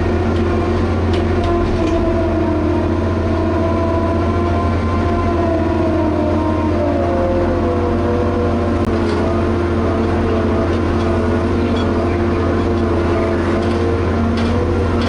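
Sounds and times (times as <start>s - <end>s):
diesel engine droning: 0.0s - 15.0s
whining tones: 0.0s - 15.0s.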